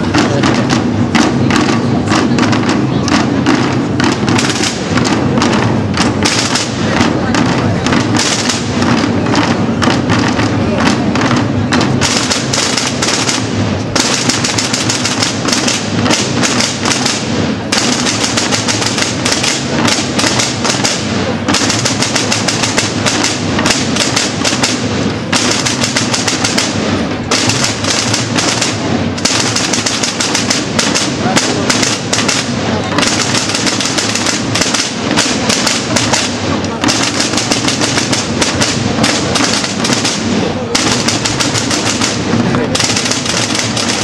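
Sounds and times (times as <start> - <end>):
drum band marching rhythm: 0.0 - 44.0.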